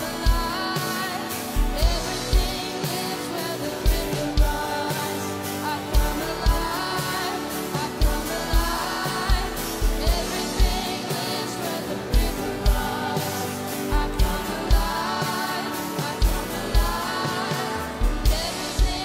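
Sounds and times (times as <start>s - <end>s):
acoustic guitar: 0.0s - 19.0s
backing singers: 0.0s - 19.0s
girl singing lead vocal: 0.0s - 19.0s.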